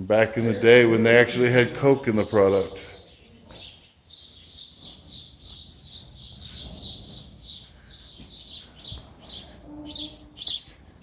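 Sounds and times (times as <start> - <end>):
small bird chirping: 2.2 - 11.0.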